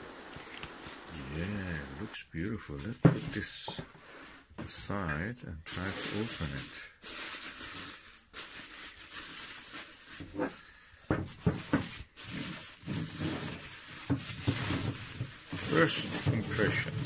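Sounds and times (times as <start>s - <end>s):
plastic bag crinkling: 0.0s - 3.7s, 5.7s - 17.0s.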